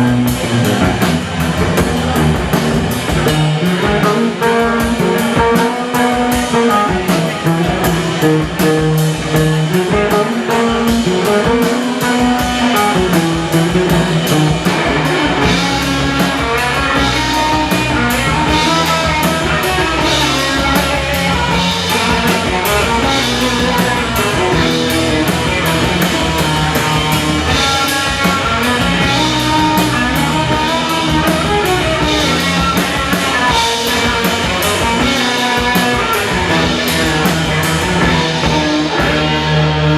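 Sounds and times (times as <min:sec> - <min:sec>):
instrumental rock music: 0:00.0 - 0:39.9.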